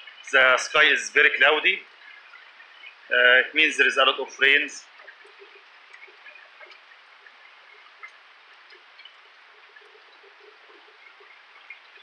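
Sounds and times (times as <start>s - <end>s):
drops and drips ticking: 0.0s - 12.0s
steady rain falling: 0.0s - 12.0s.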